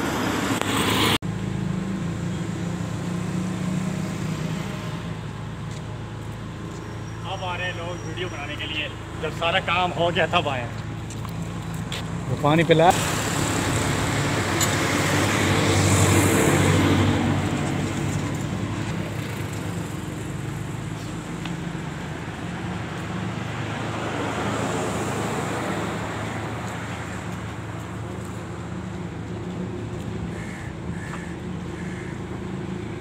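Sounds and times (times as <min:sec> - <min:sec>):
steady engine hum: 0:00.0 - 0:33.0
vehicles passing: 0:00.0 - 0:33.0.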